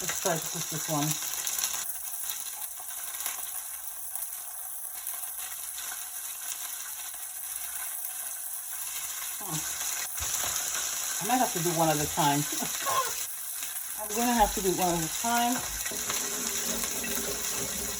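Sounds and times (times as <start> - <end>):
fish sizzling in hot oil: 0.0 - 17.9.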